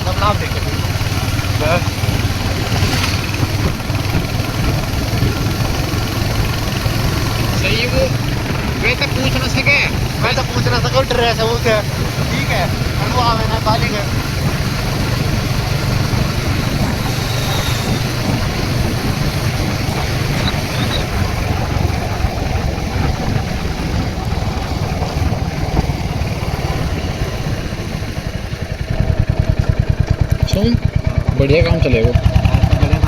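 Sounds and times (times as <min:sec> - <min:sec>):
motorcycle engine running: 0:00.0 - 0:33.0
wind rush on microphone: 0:00.0 - 0:33.0.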